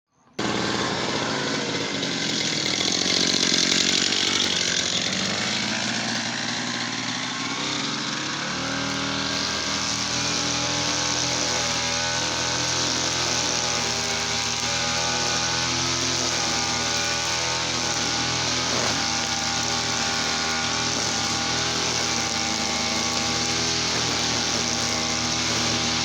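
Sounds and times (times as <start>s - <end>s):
brush cutter engine revving: 0.4s - 26.0s.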